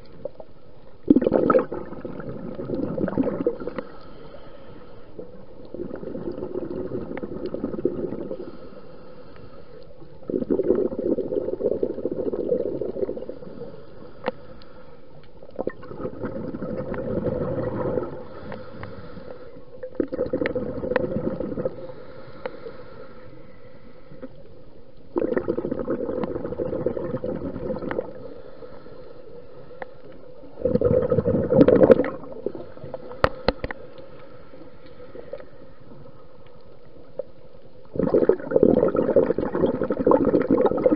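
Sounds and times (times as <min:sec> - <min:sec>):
underwater breath bubbles gurgling: 0:00.0 - 0:40.9.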